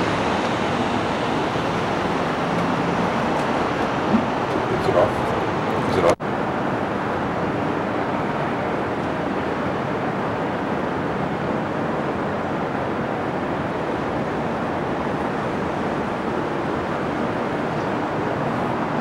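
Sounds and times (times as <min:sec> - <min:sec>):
city ambience rushing noise: 0:00.0 - 0:19.0.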